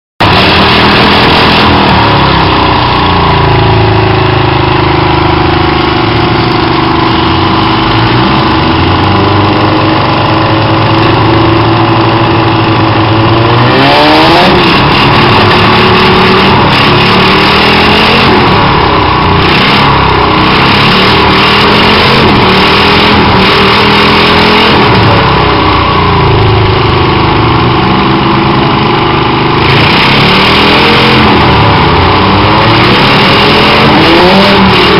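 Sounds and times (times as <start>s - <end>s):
engine revving: 0.2s - 34.9s.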